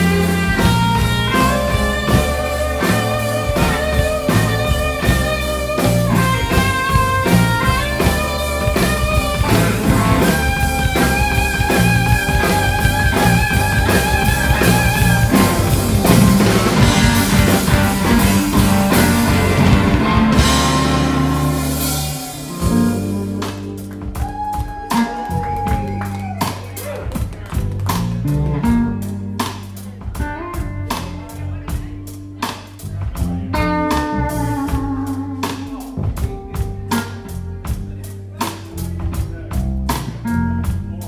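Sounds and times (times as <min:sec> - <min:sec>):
drum kit: 0:00.0 - 0:41.0
electric bass: 0:00.0 - 0:41.0
electric guitar: 0:00.0 - 0:41.0.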